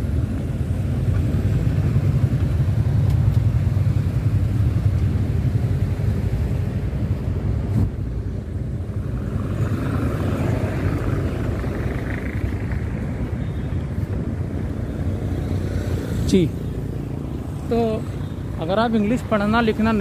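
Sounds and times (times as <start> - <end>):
motorcycles and cars pulling away: 0.0 - 20.0
vehicle approaching: 0.0 - 20.0.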